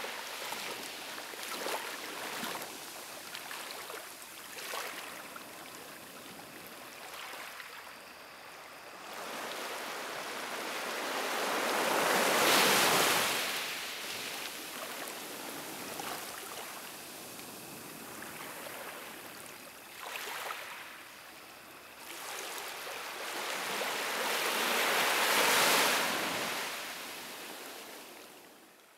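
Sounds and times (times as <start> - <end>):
small waves washing on beach: 0.0 - 28.6.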